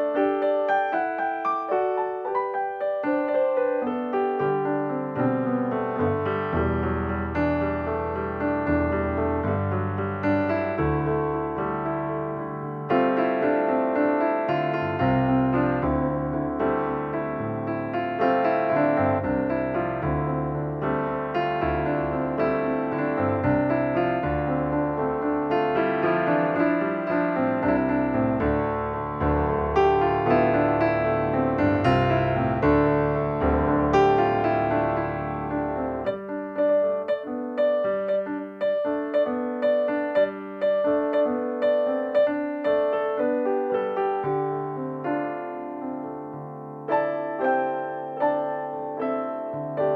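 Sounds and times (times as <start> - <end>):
piano music: 0.0 - 49.9.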